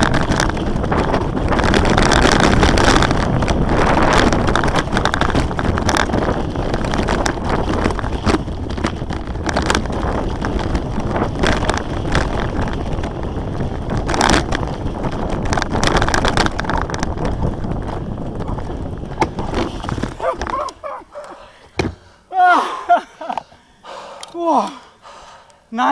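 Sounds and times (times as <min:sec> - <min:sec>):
bike knocks and rattles: 0:00.0 - 0:22.1
wind buffeting microphone: 0:00.0 - 0:23.2
bike tyres rumbling on dirt: 0:00.0 - 0:24.6.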